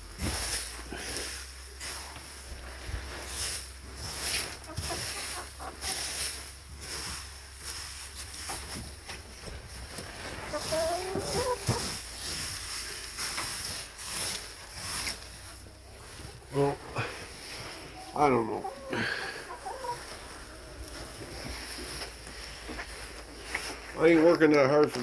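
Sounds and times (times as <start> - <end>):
rustling and crunching: 0.0 - 25.0
chickens clucking: 0.2 - 25.0.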